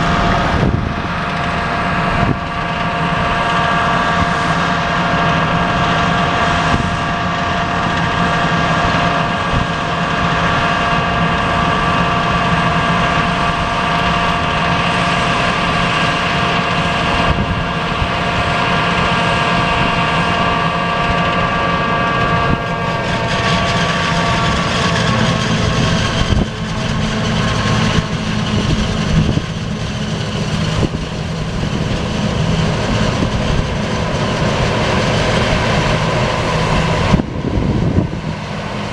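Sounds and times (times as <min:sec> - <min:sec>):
engine drone: 0:00.0 - 0:38.9
high machine whine: 0:00.0 - 0:38.9.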